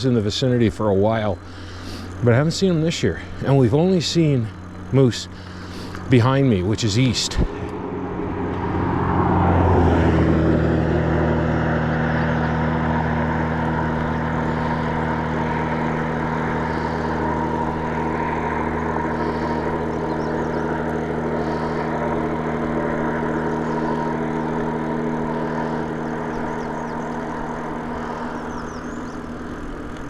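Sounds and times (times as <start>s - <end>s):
motorcycle engine slowing to idle: 0.0s - 30.0s.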